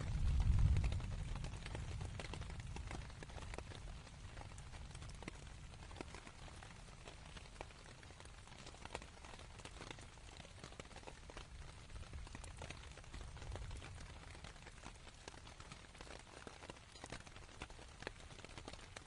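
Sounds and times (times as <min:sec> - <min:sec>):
rain falling on canvas: 0:00.0 - 0:19.0.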